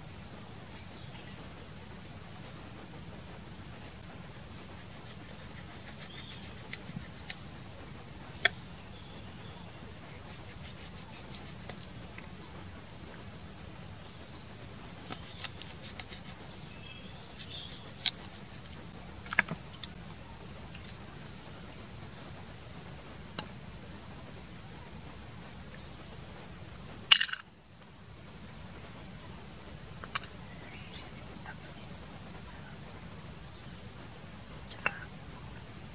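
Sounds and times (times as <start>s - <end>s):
forest insects chirring: 0.0s - 35.9s.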